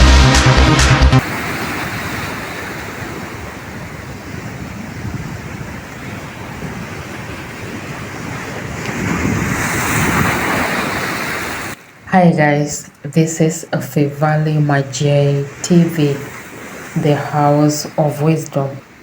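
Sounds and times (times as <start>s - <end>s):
sea surf washing ashore: 1.2s - 19.0s.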